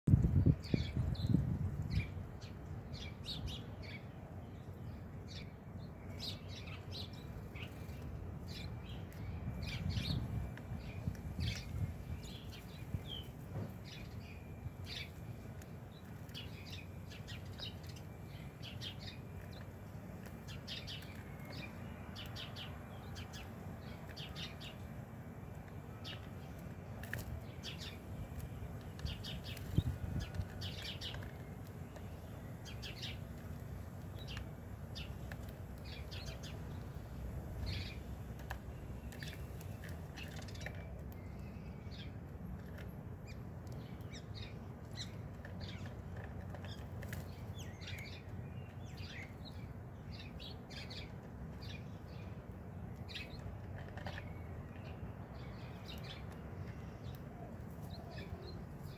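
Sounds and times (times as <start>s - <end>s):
sparrows chirping: 0.1s - 58.9s.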